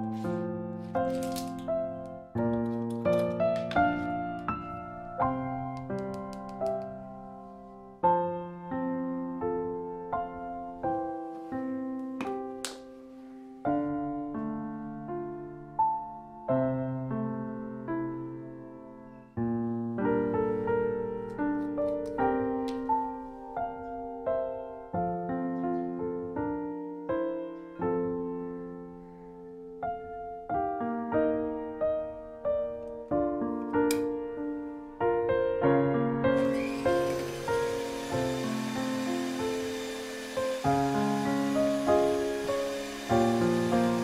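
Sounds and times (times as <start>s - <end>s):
soft solo piano: 0.0s - 37.4s.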